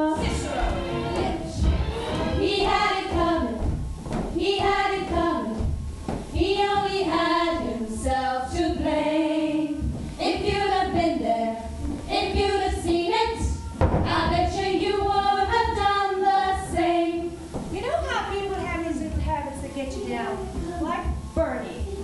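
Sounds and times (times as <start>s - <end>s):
women singing together: 0.0s - 21.7s
instrumental backing: 0.0s - 22.0s.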